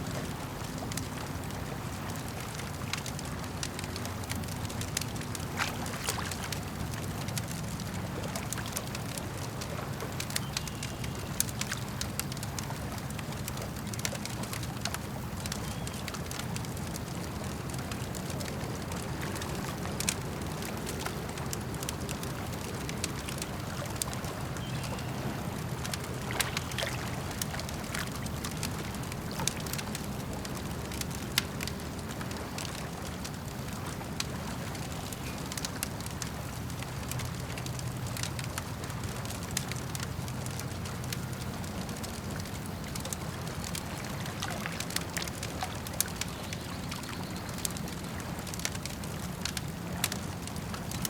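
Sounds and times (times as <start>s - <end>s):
water lapping at shore: 0.0s - 51.0s
campfire crackling and popping: 0.1s - 51.0s.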